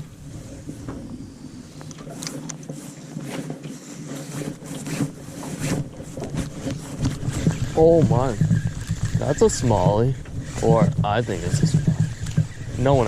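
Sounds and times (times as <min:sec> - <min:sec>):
steady low hum: 0:00.0 - 0:02.7, 0:04.5 - 0:13.0
wind on microphone: 0:00.0 - 0:02.9, 0:04.4 - 0:13.0.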